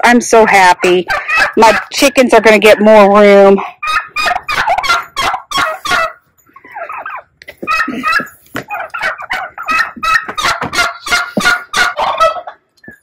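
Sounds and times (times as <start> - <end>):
poultry harsh calls: 0.4 - 13.0.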